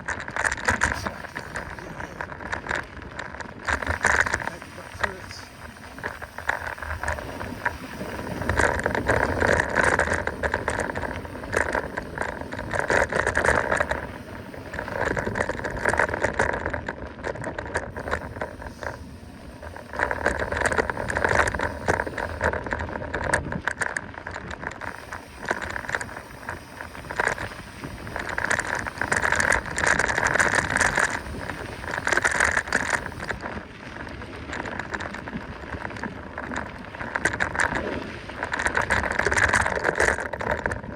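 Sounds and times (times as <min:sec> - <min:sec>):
mountain bike rattling over bumps: 0:00.0 - 0:40.9.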